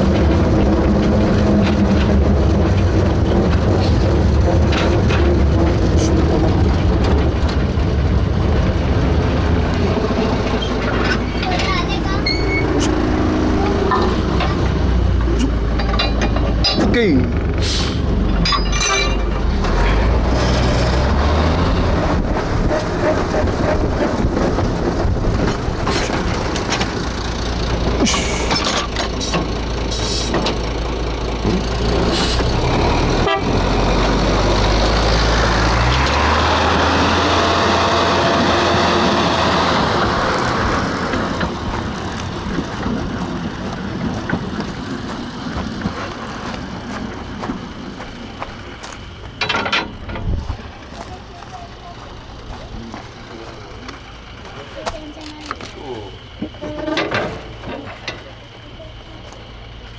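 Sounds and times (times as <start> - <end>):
wheels clicking and knocking: 0.0 - 33.4, 38.1 - 59.9
diesel locomotive engine hum: 0.0 - 59.9.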